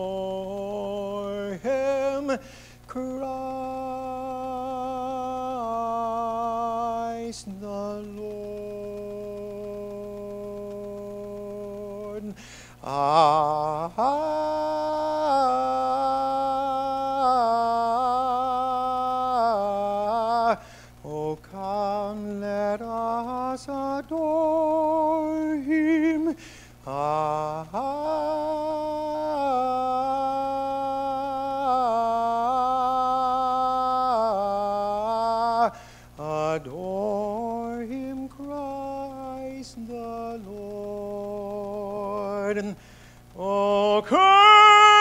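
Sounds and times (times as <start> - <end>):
man singing into a microphone: 0.0 - 45.0.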